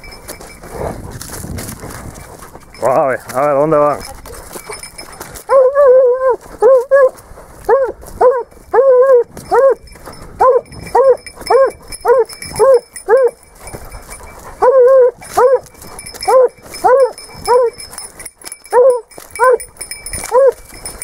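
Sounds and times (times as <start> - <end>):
hound baying: 0.0 - 21.0.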